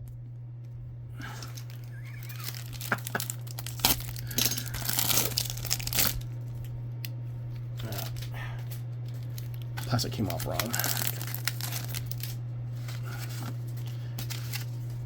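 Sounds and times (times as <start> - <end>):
plastic wrapper crinkling and tearing: 1.2 - 6.7, 7.7 - 15.0.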